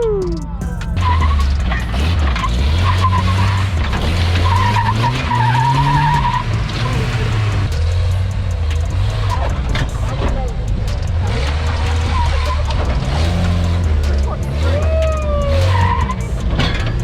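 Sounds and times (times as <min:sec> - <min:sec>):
off-road engine revving: 0:00.2 - 0:17.0.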